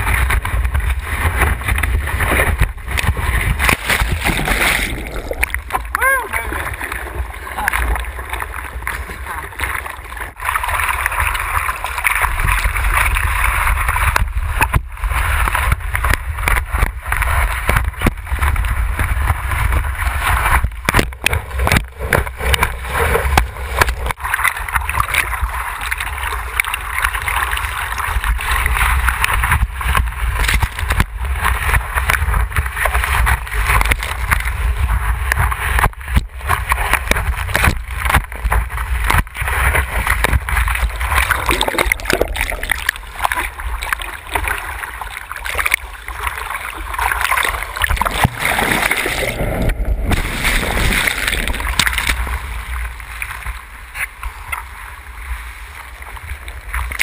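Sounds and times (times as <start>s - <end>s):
seawater rushing and splashing: 0.0s - 57.0s.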